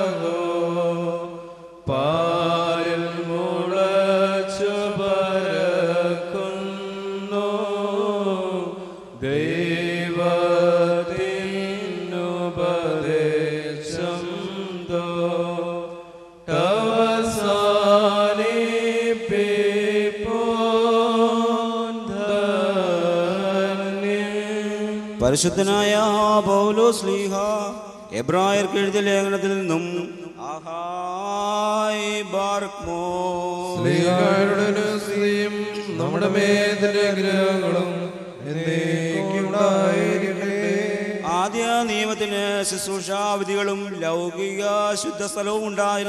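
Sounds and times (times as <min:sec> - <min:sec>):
voices chanting a hymn: 0:00.0 - 0:46.0.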